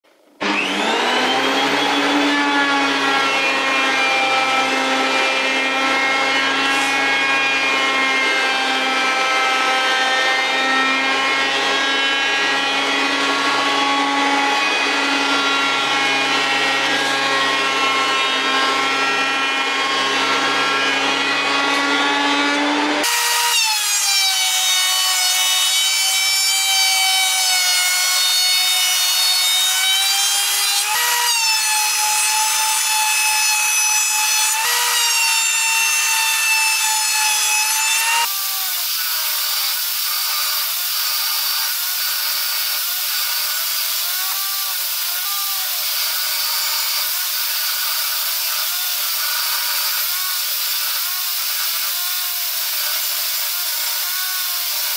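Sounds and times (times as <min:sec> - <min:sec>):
thickness planer cutting wood: 0:00.2 - 0:54.9.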